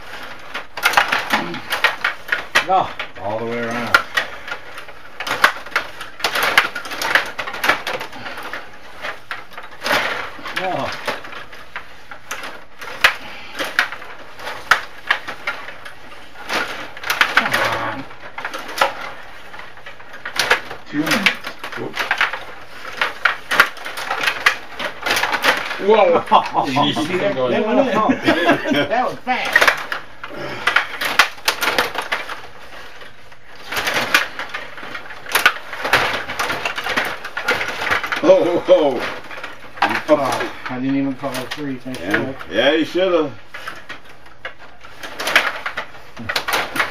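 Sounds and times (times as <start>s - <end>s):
plastic table hockey clicks: 0.0s - 27.3s, 29.4s - 46.9s
plastic rods rattling and clacking: 0.0s - 46.9s.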